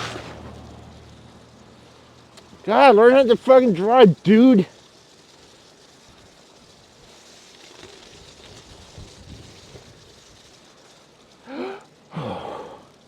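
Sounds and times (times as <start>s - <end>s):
bicycle tyres rolling through slush: 0.0s - 13.0s.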